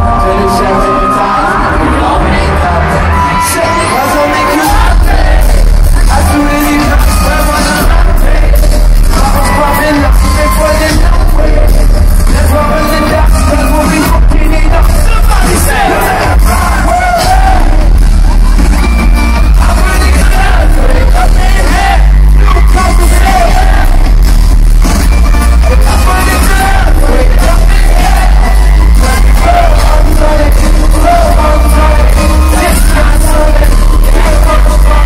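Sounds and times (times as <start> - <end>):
person singing: 0.0 - 18.0, 18.8 - 24.0, 25.2 - 35.0
heavy bass: 0.0 - 35.0
live band music: 0.0 - 35.0
steady drum beat: 4.6 - 35.0.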